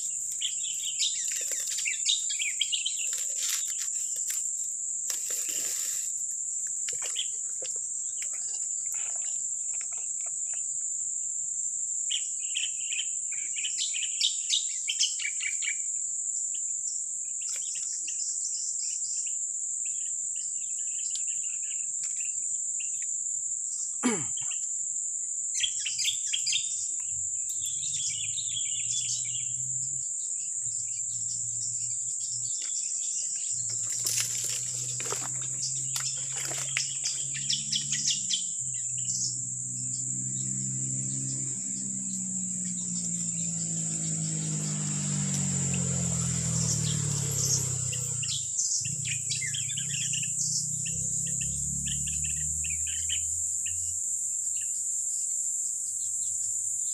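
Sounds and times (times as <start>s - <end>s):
bird chirps: 0.0s - 10.8s, 12.1s - 56.9s
insects buzzing: 0.0s - 56.9s.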